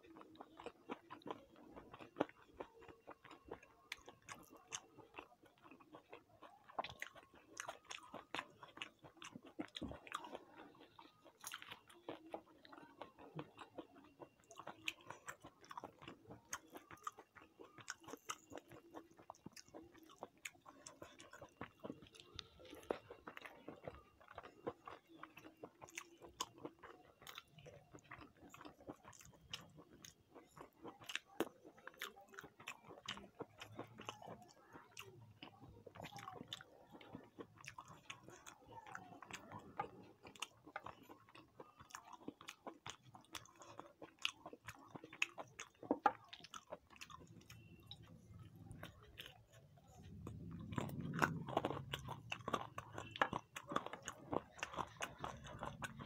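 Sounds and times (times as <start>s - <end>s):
person chewing food: 0.0s - 56.0s
mouth clicks and crunches: 0.1s - 56.0s.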